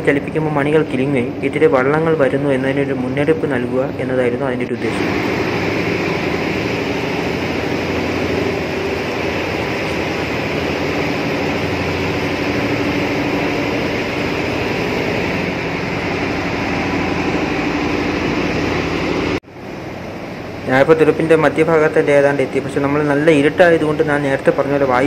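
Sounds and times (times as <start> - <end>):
machine engine droning: 0.0 - 25.0.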